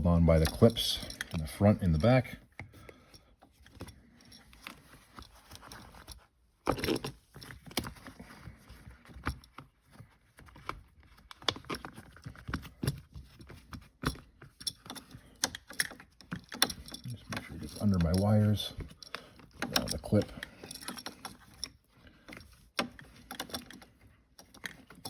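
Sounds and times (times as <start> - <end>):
plastic parts clicking and knocking: 0.0 - 25.0.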